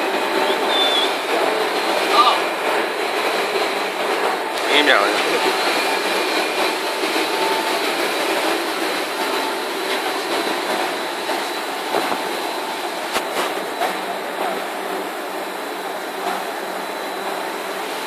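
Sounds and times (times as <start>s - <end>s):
processing machinery running: 0.0s - 18.0s.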